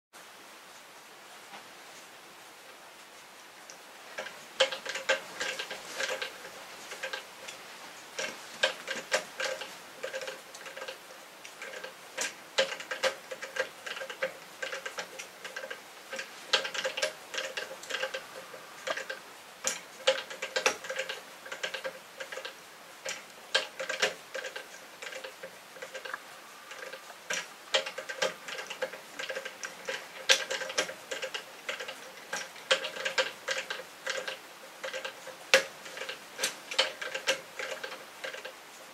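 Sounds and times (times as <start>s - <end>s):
wooden sculpture clicking and knocking: 4.1s - 7.6s, 8.2s - 38.6s.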